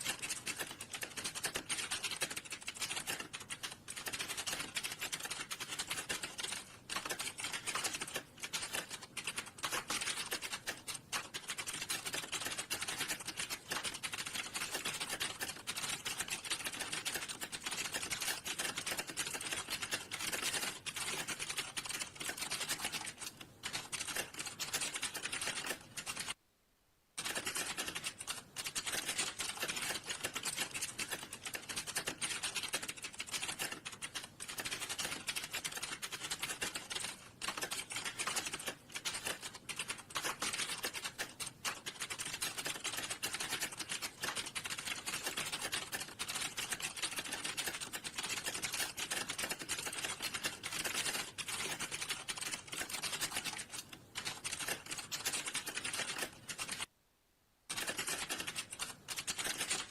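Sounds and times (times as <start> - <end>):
typing on computer keyboard: 0.0 - 26.4, 27.2 - 56.9, 57.7 - 59.9.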